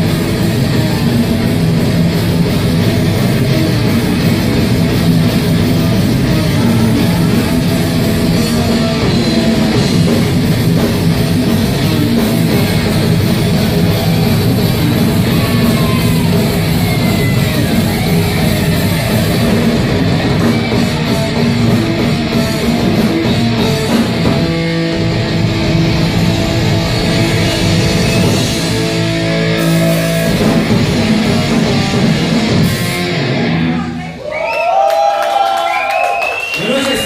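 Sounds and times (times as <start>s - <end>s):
drum kit: 0.0s - 34.1s
electric guitar: 0.0s - 34.2s.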